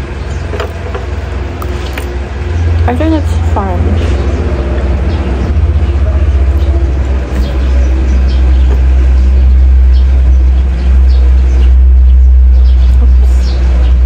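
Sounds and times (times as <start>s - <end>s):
deep steady rumble: 0.0s - 14.0s.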